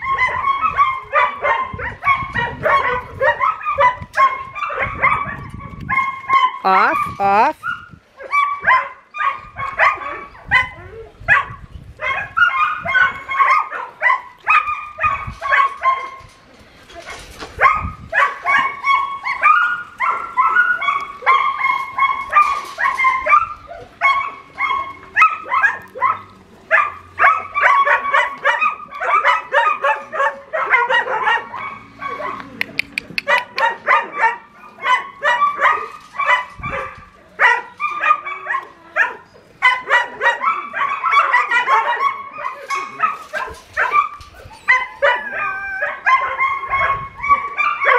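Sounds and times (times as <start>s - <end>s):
dog barking high-pitched: 0.0s - 6.9s, 7.6s - 16.2s, 17.6s - 32.4s, 33.2s - 47.9s.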